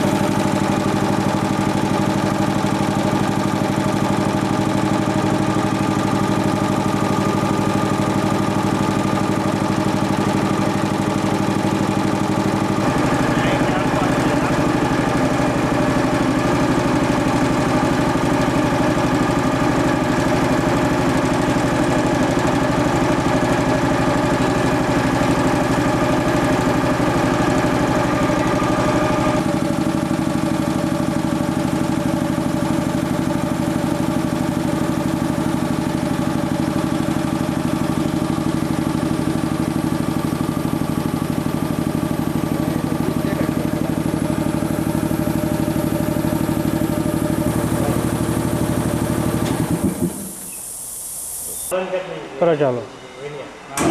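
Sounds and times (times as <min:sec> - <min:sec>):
air compressor drone: 0:00.0 - 0:53.9.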